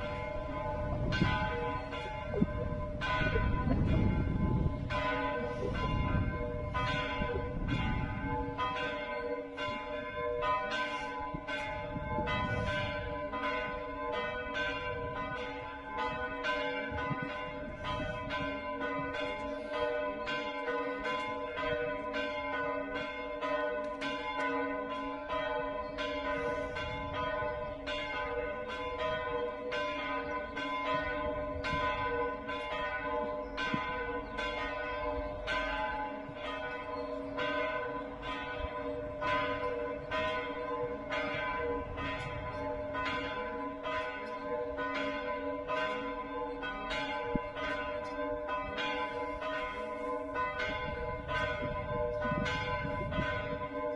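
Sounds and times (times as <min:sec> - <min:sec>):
church bells pealing: 0:00.0 - 0:53.9.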